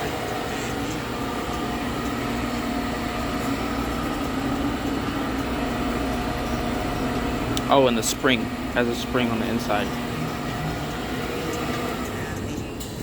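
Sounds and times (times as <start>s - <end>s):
brake lathe humming: 0.0s - 13.0s.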